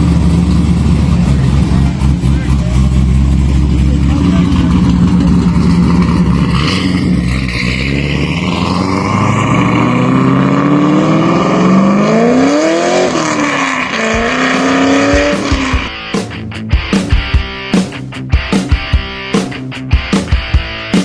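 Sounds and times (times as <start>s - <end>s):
car engine accelerating: 0.0s - 18.8s.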